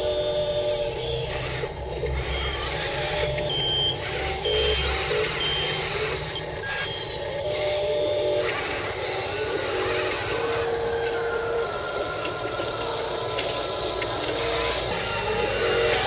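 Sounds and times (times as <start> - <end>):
toy loader motor and gears humming: 0.0 - 16.0.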